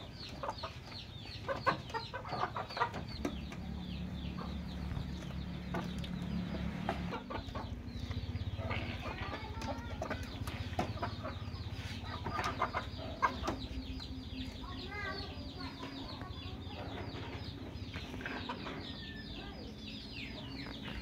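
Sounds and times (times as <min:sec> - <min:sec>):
chicken clucking: 0:00.0 - 0:21.0
steady low hum: 0:00.0 - 0:21.0.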